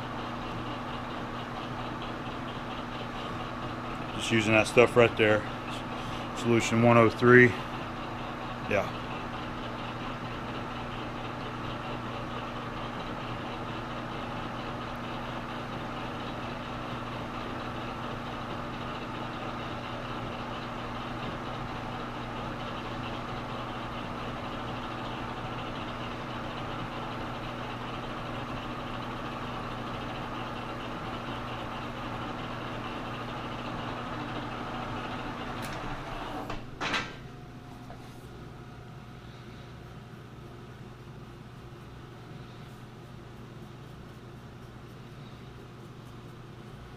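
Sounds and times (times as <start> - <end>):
metal lathe motor humming: 0.0 - 38.5.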